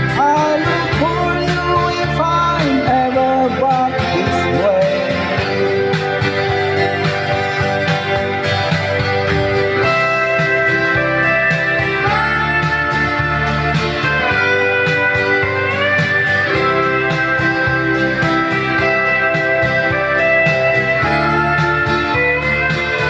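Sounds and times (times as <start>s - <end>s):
bass with steady beat: 0.0s - 23.0s
steel guitar melody: 0.0s - 23.0s
strummed guitar: 0.0s - 23.0s.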